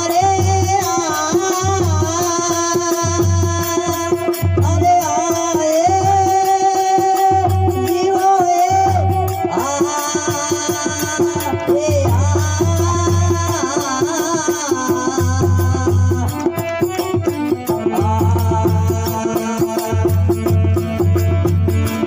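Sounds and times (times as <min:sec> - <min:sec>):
jingling percussion: 0:00.0 - 0:22.0
steady drum beat: 0:00.0 - 0:22.0.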